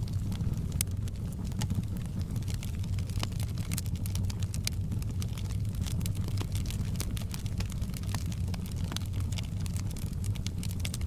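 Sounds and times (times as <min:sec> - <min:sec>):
low rumble of flames: 0:00.0 - 0:11.0
wood fire crackling and popping: 0:00.0 - 0:11.0.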